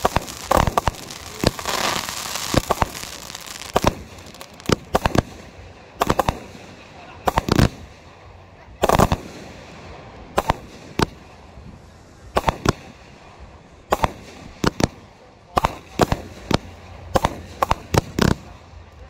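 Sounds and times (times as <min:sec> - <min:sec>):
fireworks bangs: 0:00.0 - 0:18.8.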